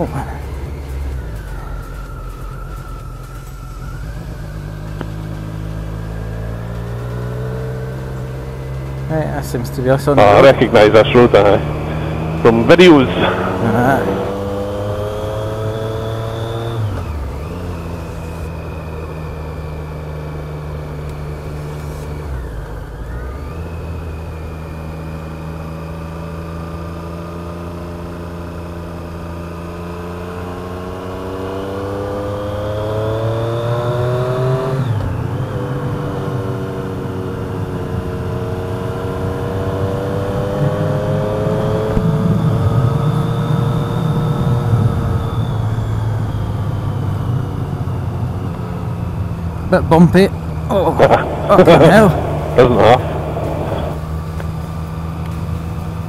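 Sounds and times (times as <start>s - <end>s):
motorcycle engine revving: 0.0s - 56.0s
road and wind noise: 0.0s - 56.0s.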